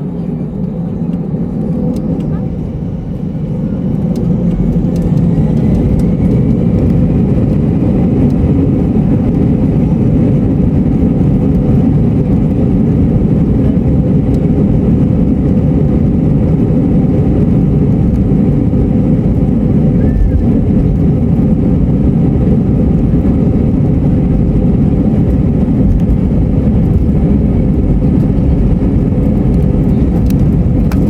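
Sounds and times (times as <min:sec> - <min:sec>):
jet engines at takeoff power: 0:00.0 - 0:31.0.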